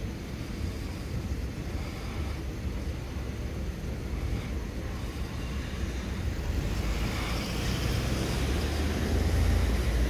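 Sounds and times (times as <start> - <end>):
tram rumbling: 0.0 - 10.0.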